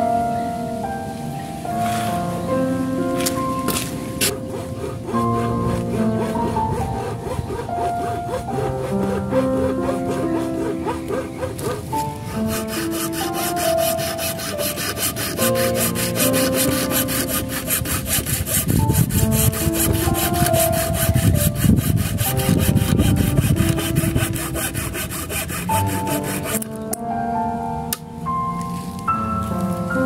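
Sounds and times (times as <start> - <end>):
soft melodic background music: 0.0 - 30.0
hand saw cutting wood: 1.8 - 2.2, 3.2 - 26.9.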